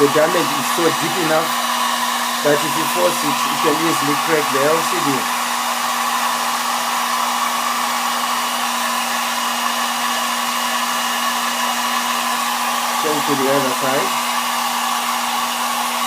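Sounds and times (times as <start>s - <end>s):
hot-air blower running: 0.0s - 16.0s.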